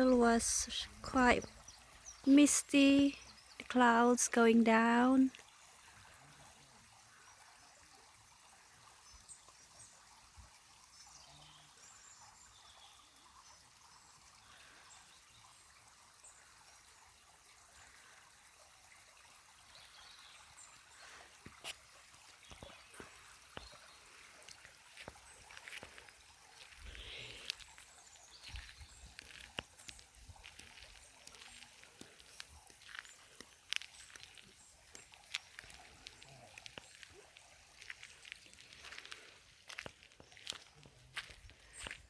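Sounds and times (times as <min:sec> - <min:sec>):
faint outdoor hiss: 0:00.0 - 0:42.0.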